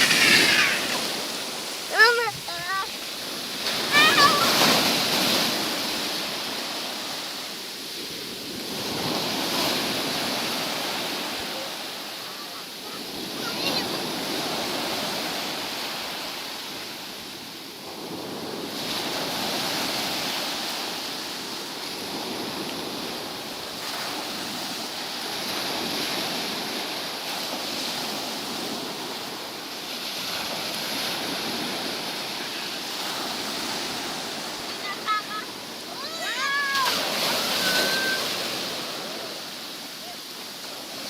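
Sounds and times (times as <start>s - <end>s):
waves washing onto beach: 0.0s - 41.0s.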